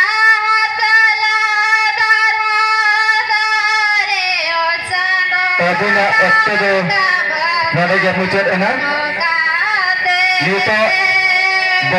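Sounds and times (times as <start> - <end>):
woman singing into a microphone: 0.0 - 11.9.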